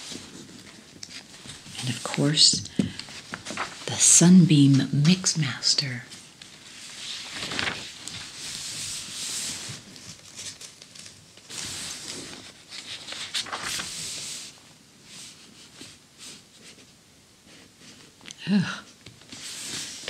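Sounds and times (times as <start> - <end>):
paper pages rustling: 0.0 - 5.4, 6.1 - 16.9, 19.0 - 20.0.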